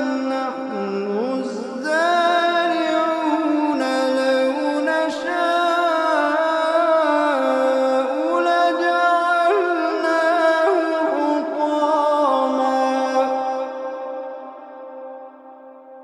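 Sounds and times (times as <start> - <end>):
person chanting recitation: 0.0 - 15.8.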